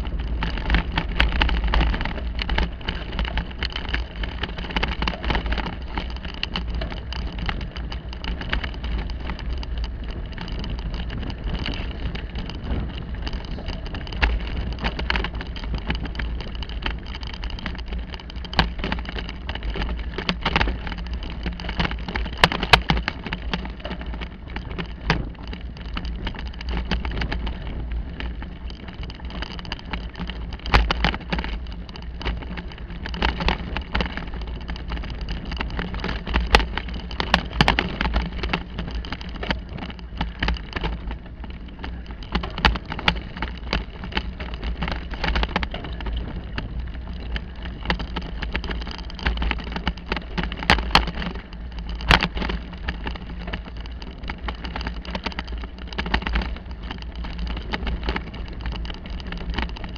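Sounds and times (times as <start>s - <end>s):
bicycle tyre noise: 0.0s - 59.9s
bike rattling over bumps: 0.0s - 59.9s
wind rumble on microphone: 0.0s - 59.9s.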